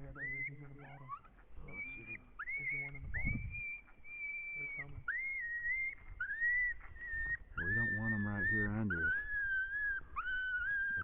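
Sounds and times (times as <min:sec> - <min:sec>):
high whimpering whines: 0:00.0 - 0:11.0.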